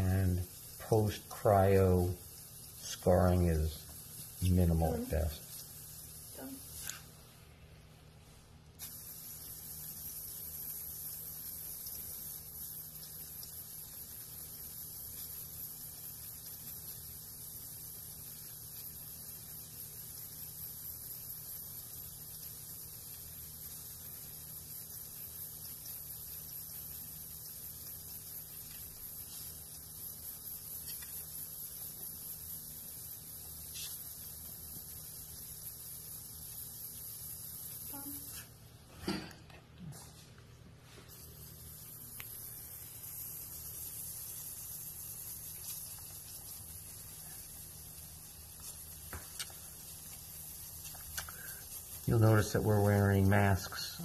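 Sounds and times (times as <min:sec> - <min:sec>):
cryo pen spraying hiss: 0:00.0 - 0:54.0.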